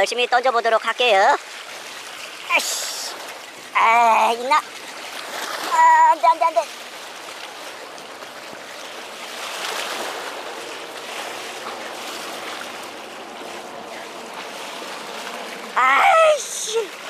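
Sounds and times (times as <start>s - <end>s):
surf washing against seawall: 0.0s - 17.0s.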